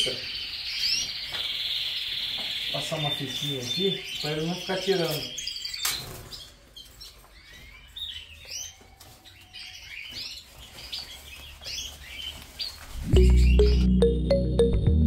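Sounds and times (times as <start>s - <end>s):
canaries chirping: 0.0s - 13.9s.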